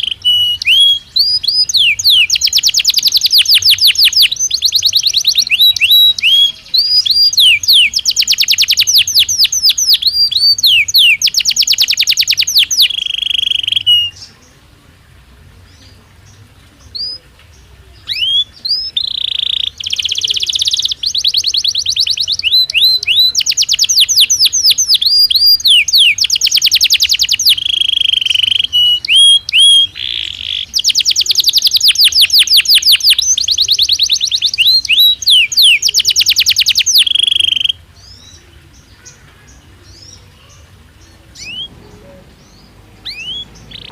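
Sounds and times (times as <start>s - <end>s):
canary singing trills: 0.0s - 14.7s, 15.6s - 43.9s.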